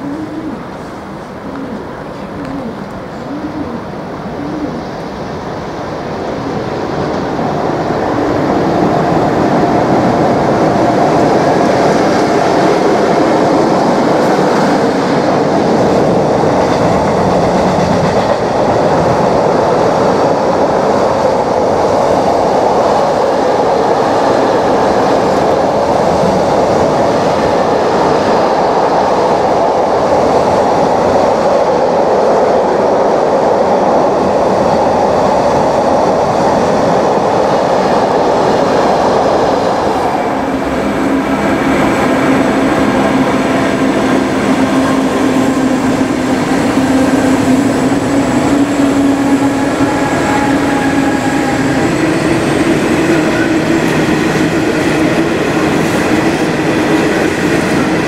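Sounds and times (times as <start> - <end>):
freight train passing: 0.0 - 58.0
wheels rumbling on rails: 0.0 - 58.0.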